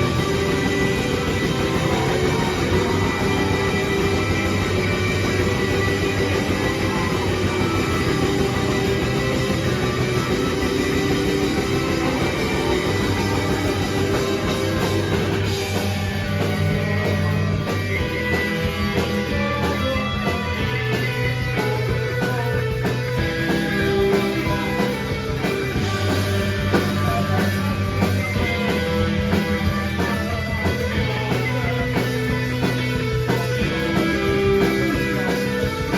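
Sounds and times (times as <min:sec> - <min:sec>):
bass guitar: 0:00.0 - 0:35.9
distorted guitars: 0:00.0 - 0:35.9
drum kit: 0:00.0 - 0:35.9.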